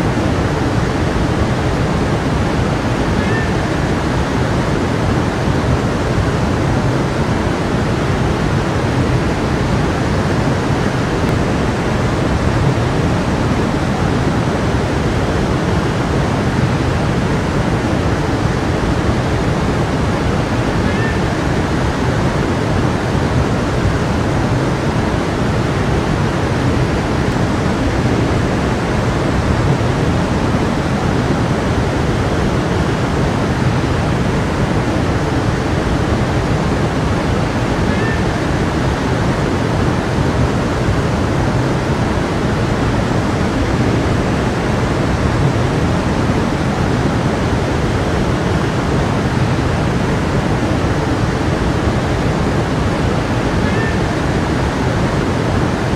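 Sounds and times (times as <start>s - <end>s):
stream flowing: 0.0s - 55.9s.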